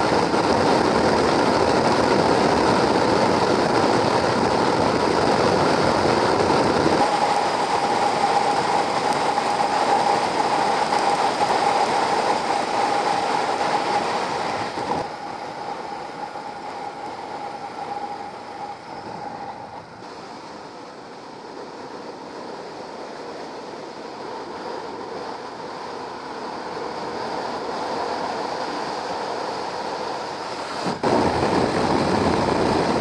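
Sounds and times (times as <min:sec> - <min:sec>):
steady whine: 0:00.0 - 0:33.0
wind rush and road noise: 0:00.0 - 0:33.0.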